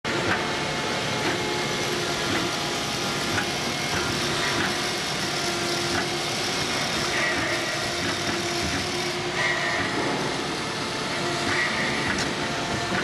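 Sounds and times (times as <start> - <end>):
machine mechanical hum: 0.0 - 13.0.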